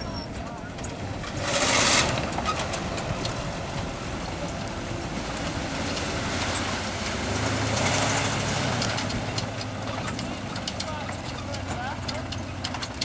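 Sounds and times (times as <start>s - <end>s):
suv engine running under load: 0.0s - 13.0s.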